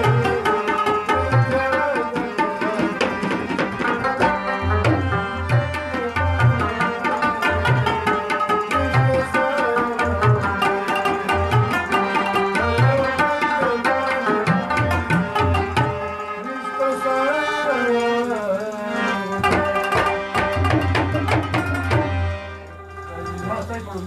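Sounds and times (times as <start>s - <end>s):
tabla strokes: 0.0s - 16.4s, 18.0s - 24.0s
harmonium held tones: 0.0s - 24.0s.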